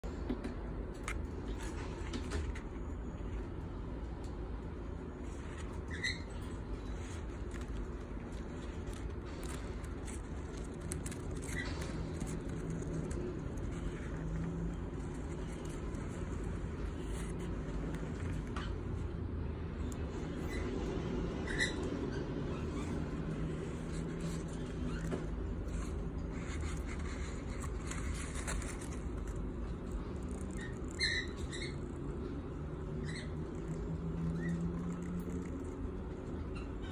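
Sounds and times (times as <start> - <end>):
low hum and rumble: 0.0 - 36.9.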